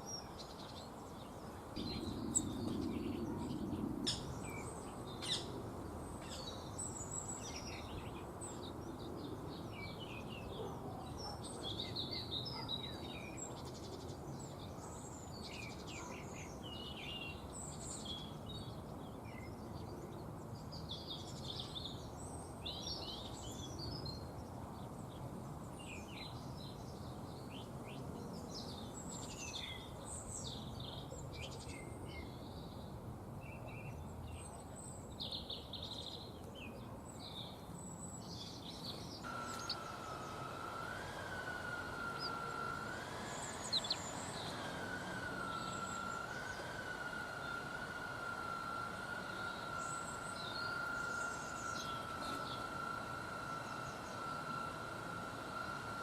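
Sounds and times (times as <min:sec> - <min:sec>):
low background hum: 0:00.0 - 0:56.0
small birds chirping: 0:00.0 - 0:56.0.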